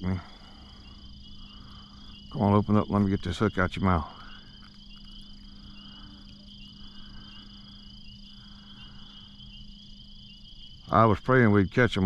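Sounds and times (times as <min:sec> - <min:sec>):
crickets trilling: 0:00.0 - 0:12.0
frogs calling: 0:00.0 - 0:12.0.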